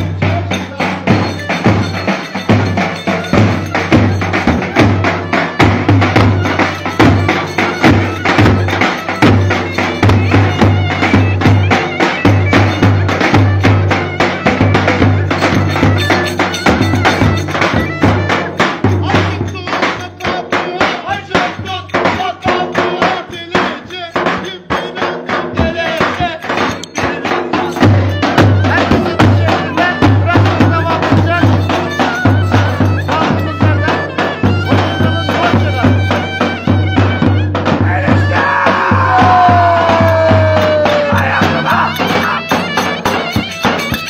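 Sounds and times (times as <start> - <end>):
lively traditional dance music: 0.0 - 44.0
sharp clacking percussion: 0.0 - 44.0.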